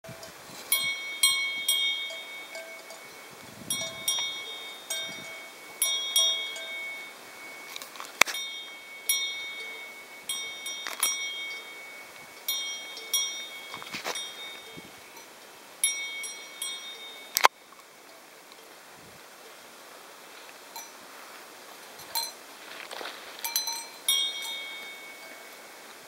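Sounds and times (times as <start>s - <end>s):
cowbell clanking: 0.0s - 18.7s, 20.7s - 21.0s, 21.8s - 22.4s, 23.4s - 26.0s.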